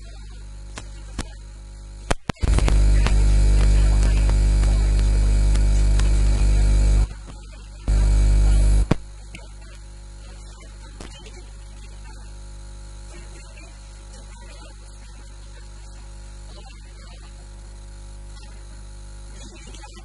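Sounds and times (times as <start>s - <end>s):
audio line buzz: 0.0s - 20.0s
electrical mains hum: 0.0s - 20.0s.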